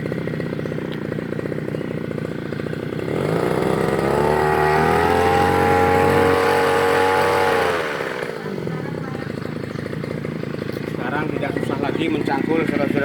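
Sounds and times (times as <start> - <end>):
brush cutter engine revving: 0.0 - 13.0.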